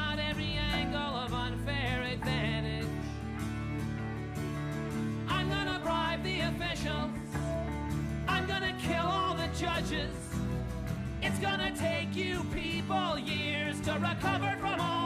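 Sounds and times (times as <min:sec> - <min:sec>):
song with beat and singing: 0:00.0 - 0:15.0.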